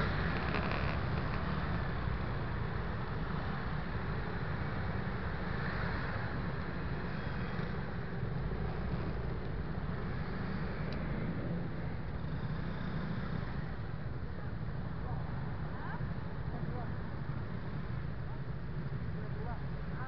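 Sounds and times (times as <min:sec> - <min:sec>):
wind engine and road rumble: 0:00.0 - 0:20.0.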